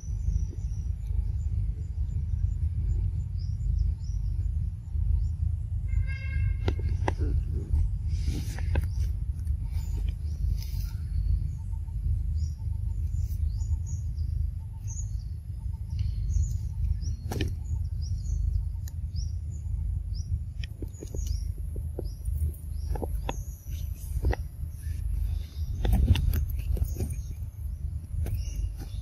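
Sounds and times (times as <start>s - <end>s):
small birds chirping: 0.0s - 29.0s
steady low rumble: 0.0s - 29.0s.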